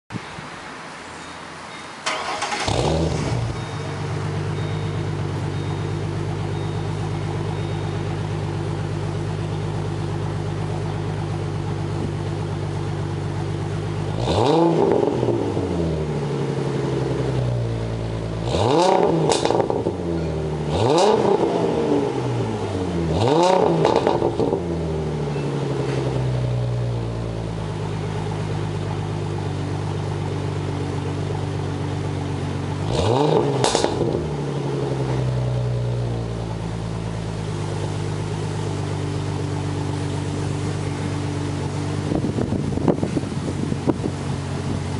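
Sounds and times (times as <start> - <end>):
car engine idling: 2.0 - 44.9
car engine revving: 2.1 - 7.6, 8.2 - 28.4, 32.7 - 44.9.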